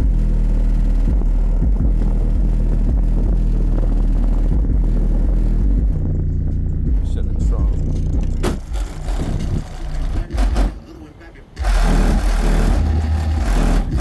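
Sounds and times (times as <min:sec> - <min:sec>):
loud bass-heavy music: 0:00.0 - 0:10.9, 0:11.5 - 0:14.0.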